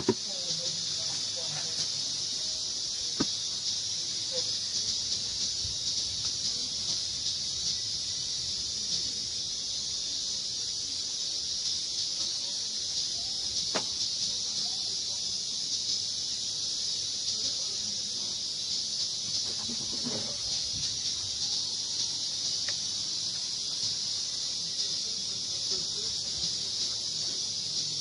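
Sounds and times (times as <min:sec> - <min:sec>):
insects droning chorus: 0:00.0 - 0:28.0.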